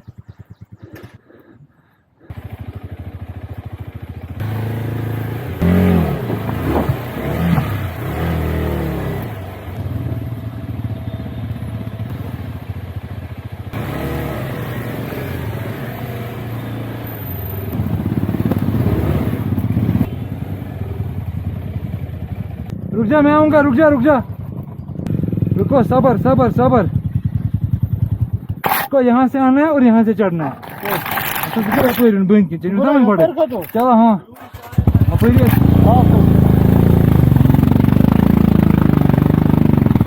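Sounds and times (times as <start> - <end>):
motorcycle engine revving: 0.0 - 1.2, 2.2 - 28.9, 34.4 - 40.0.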